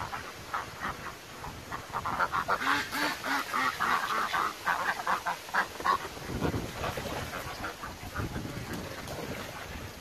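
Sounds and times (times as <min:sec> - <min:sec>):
ducks quacking: 0:00.0 - 0:09.9.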